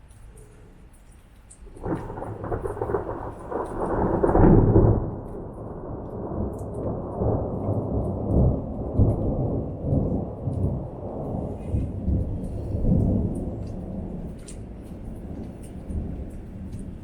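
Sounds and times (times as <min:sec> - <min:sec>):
thunder crack and rumble: 0:01.6 - 0:17.0.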